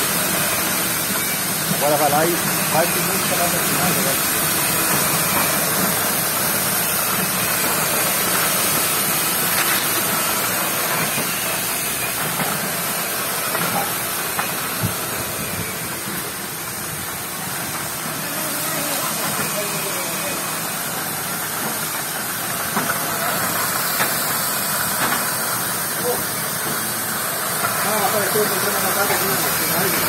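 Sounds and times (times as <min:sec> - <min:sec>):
washing machine running: 0:00.0 - 0:30.0.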